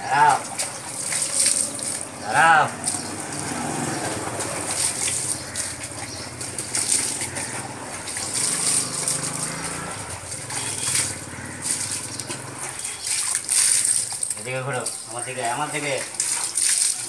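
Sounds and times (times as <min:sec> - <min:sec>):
water splashing in fur: 0:00.0 - 0:17.0.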